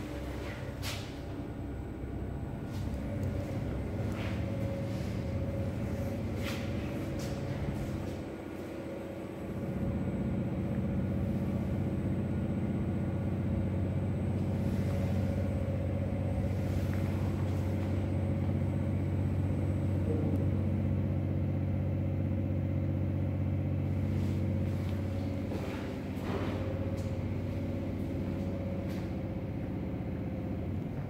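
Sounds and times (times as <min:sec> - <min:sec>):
lift machinery humming: 0:00.0 - 0:31.0.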